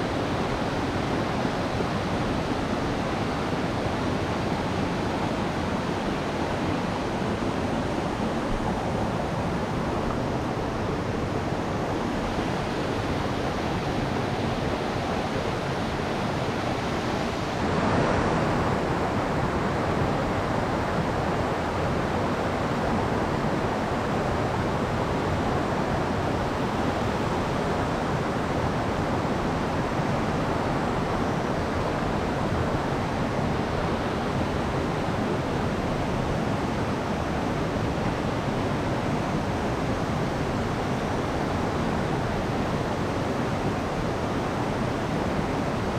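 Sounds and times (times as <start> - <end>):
stream rushing over rocks: 0.0 - 45.9.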